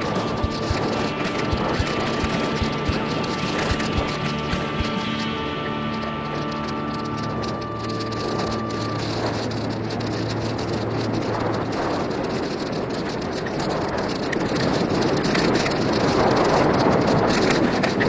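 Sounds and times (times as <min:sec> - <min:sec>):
bike rattles and knocks: 0:00.0 - 0:18.0
bike tyre noise on dirt: 0:00.0 - 0:18.0
wind rushing over microphone: 0:00.0 - 0:18.0.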